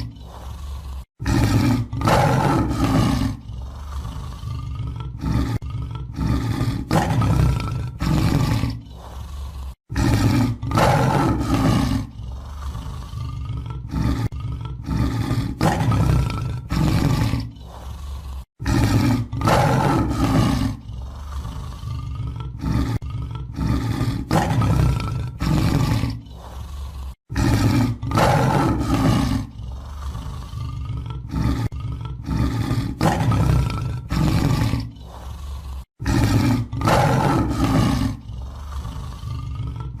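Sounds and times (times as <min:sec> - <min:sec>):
large animal roaring and growling: 0:00.0 - 0:40.0.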